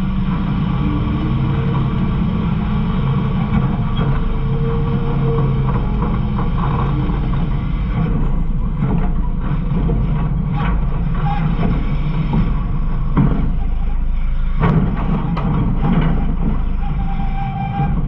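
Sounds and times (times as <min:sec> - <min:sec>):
garbage truck low rumble: 0:00.0 - 0:18.0.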